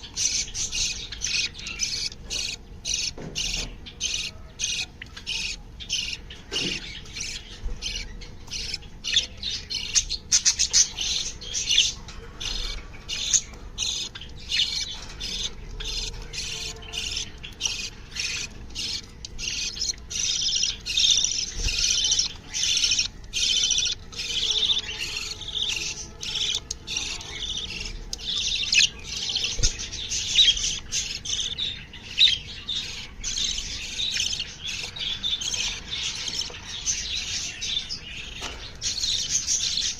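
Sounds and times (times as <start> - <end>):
cage birds chirping and squawking: 0.0 - 39.9.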